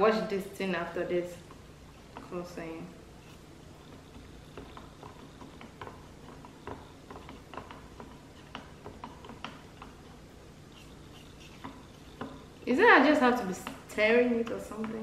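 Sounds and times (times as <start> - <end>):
plastic spoon stirring in cup: 1.1 - 15.0.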